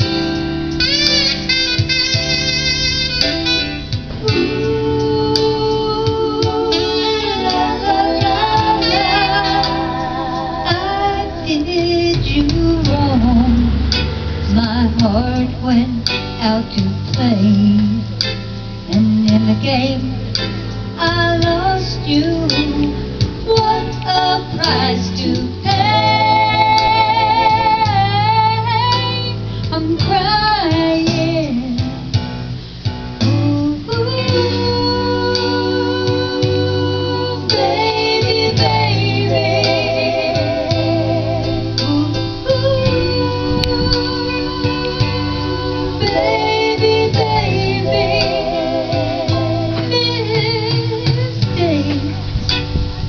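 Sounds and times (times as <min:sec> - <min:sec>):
instrumental backing with guitar: 0:00.0 - 0:53.0
woman singing into microphone: 0:04.0 - 0:32.3, 0:33.2 - 0:53.0.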